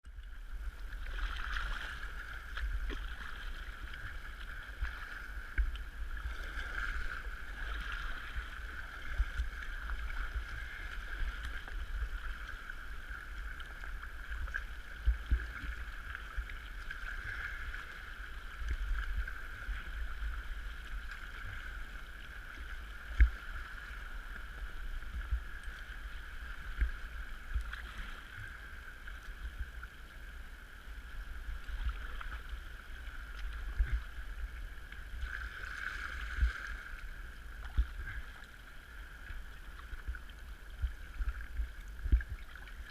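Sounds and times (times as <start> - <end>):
constant low rumble: 0.0 - 42.9
water splashing around kayak: 0.0 - 42.9.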